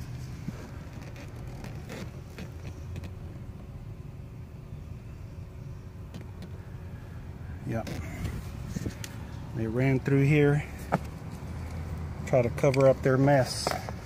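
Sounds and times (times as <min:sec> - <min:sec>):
car cabin rumble: 0:00.0 - 0:14.0.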